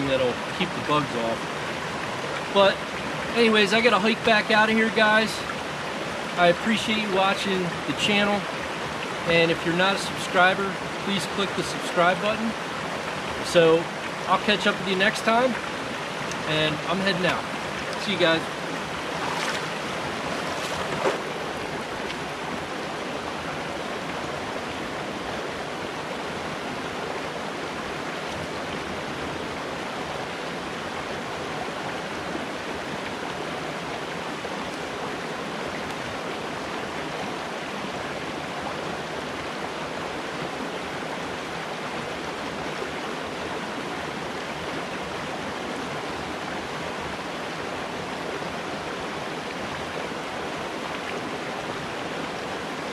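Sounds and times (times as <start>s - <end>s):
brook splashing over stones: 0.0s - 52.9s.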